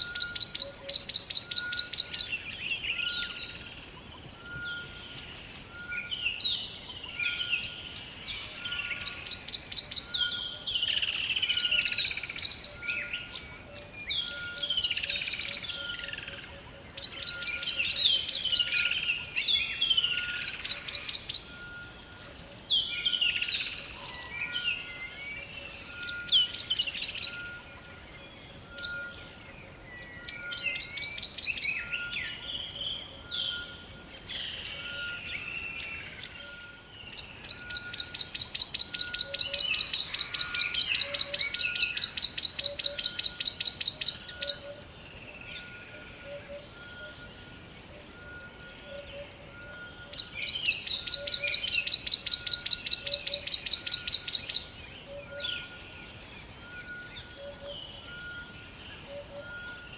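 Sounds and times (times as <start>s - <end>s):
songbirds trilling and whistling: 0.0s - 59.9s.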